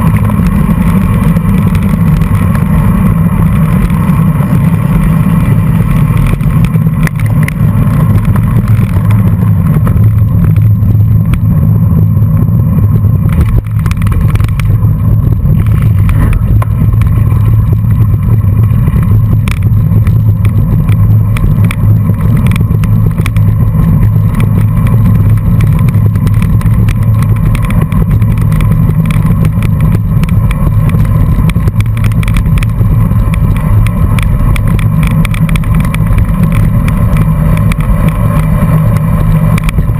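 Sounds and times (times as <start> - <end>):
bicycle tyres on dirt road: 0.0 - 39.9
small clicks and rattles: 0.0 - 39.9
wind rumbling on microphone: 0.0 - 39.9.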